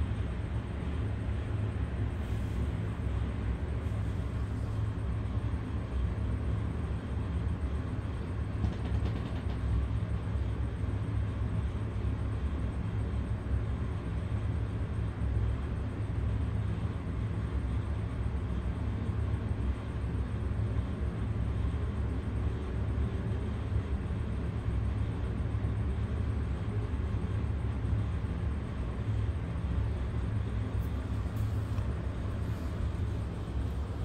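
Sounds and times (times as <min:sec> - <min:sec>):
low background rumble: 0:00.0 - 0:34.0.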